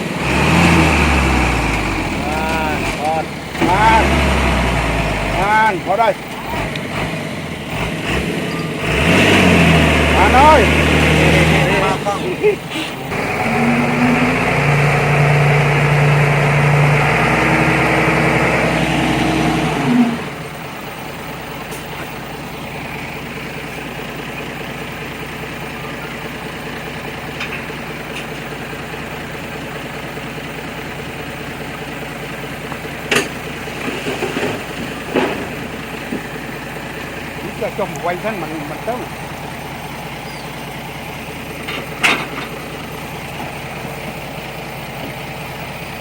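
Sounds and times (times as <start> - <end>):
diesel engine of heavy machinery: 0.0 - 46.0.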